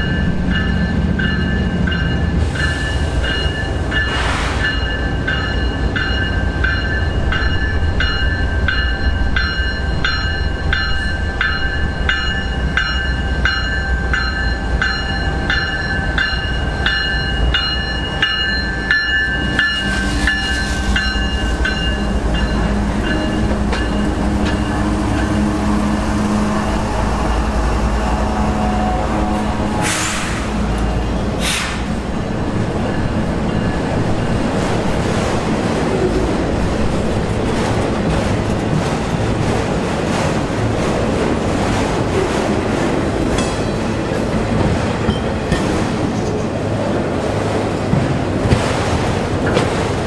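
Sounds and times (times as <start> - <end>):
diesel locomotives rumbling: 0.0 - 50.0
rolling train cars: 0.0 - 50.0.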